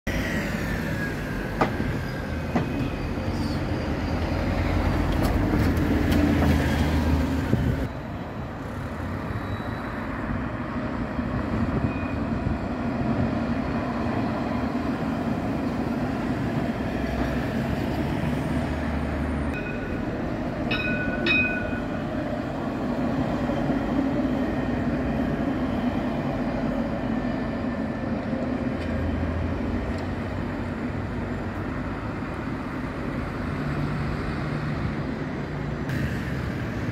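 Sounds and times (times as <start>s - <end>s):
traffic hum: 0.1s - 36.9s
tram rolling on rails: 0.1s - 36.9s.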